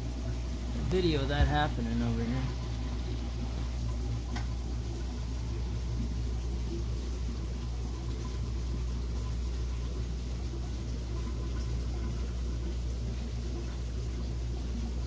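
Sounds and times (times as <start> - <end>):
low equipment hum: 0.0 - 15.0.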